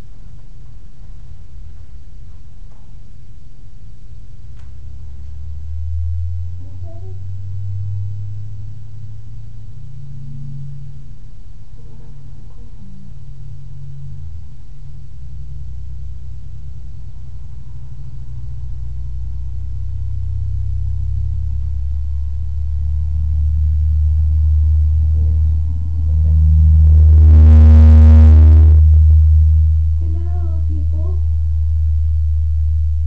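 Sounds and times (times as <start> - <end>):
steady drone with overtones: 0.0 - 33.0
vehicle engine rumble: 0.0 - 33.0.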